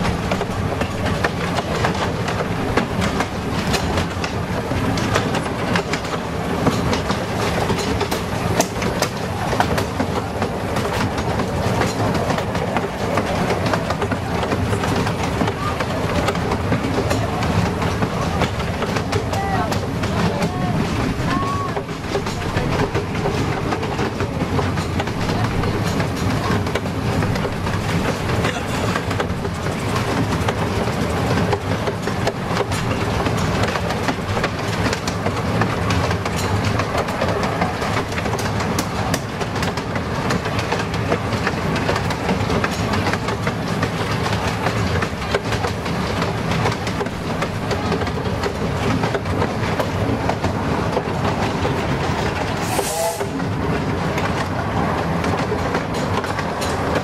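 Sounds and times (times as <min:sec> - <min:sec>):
miniature train clattering: 0:00.0 - 0:57.0
wheels clicking over rail joints: 0:00.0 - 0:57.0.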